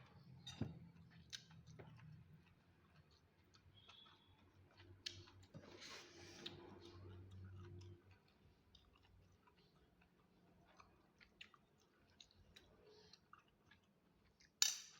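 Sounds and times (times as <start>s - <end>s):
chewing with small clicks: 0.0s - 5.7s, 6.4s - 14.7s.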